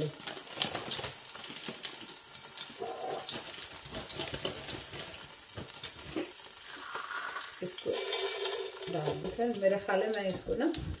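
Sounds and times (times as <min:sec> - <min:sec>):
hot oil sizzling in a pot: 0:00.0 - 0:11.0
small crackles: 0:00.0 - 0:11.0.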